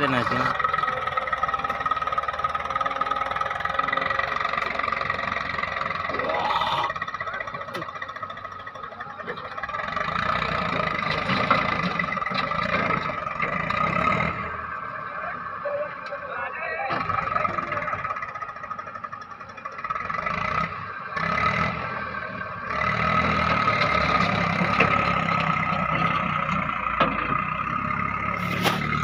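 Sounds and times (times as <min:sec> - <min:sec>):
diesel engines running: 0:00.0 - 0:29.0.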